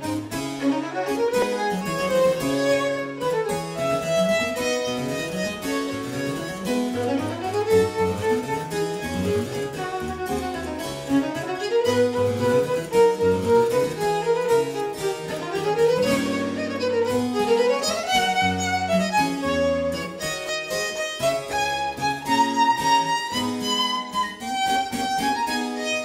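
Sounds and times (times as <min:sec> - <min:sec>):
harpsichord plucked accompaniment: 0:00.0 - 0:26.0
violin playing fast scale runs: 0:00.1 - 0:26.0.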